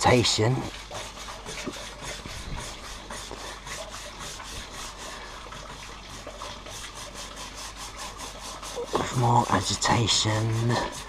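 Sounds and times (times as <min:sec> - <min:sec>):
scrubbing pad on metal panel: 0:00.0 - 0:11.0.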